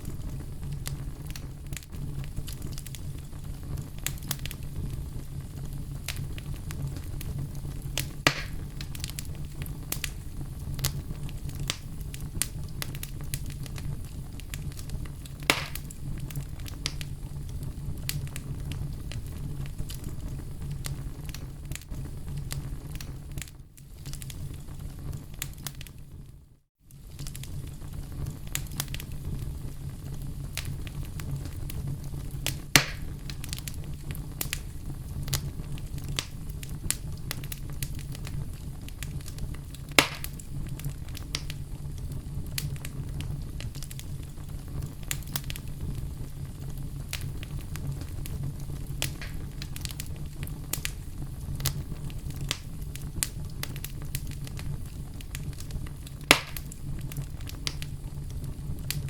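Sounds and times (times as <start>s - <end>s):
sharp fire pops: 0.0s - 26.0s, 26.9s - 59.0s
wood bonfire crackling: 0.0s - 59.0s.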